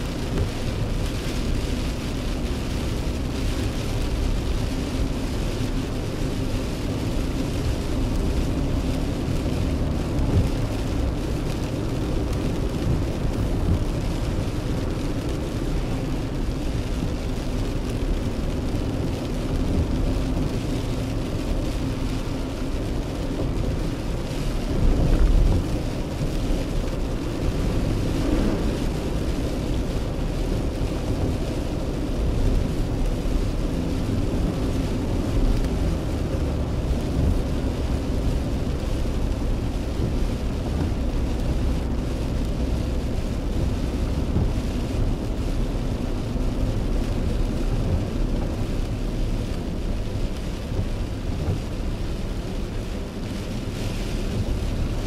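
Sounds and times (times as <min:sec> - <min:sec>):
rain on car: 0:00.0 - 0:55.0
tyres on wet road: 0:00.0 - 0:55.0.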